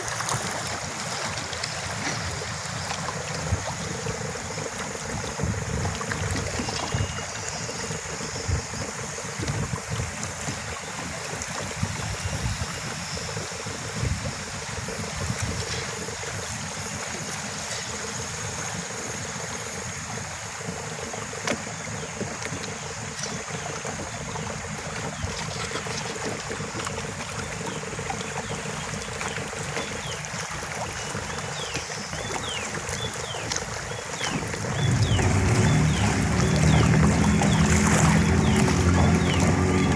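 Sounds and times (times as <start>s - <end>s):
river water rushing: 0.0s - 24.7s, 31.6s - 39.9s.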